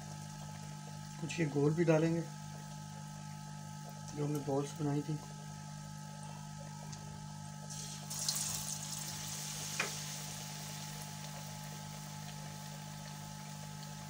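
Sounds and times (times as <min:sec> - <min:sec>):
food frying in hot oil: 0:00.0 - 0:14.0.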